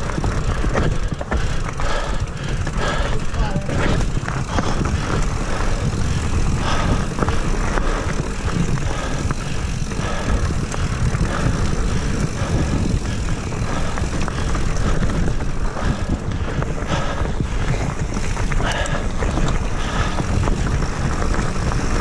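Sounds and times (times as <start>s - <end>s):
bike knocking and rattling: 0.0s - 22.0s
bike tyres rolling on dirt: 0.0s - 22.0s
wind buffeting microphone: 0.0s - 22.0s.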